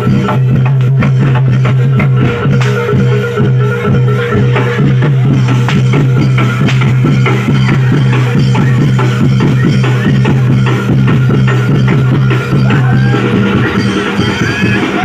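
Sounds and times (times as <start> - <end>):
fast dense percussion drumming: 0.0 - 15.0.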